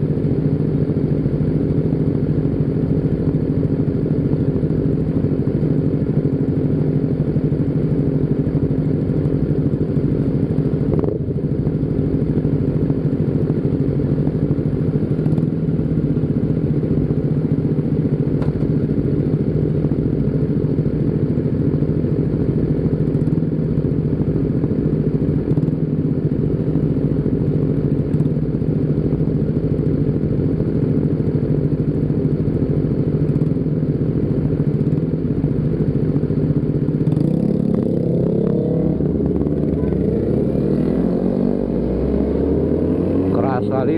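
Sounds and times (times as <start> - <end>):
motorcycle engine running steadily: 0.0 - 43.9.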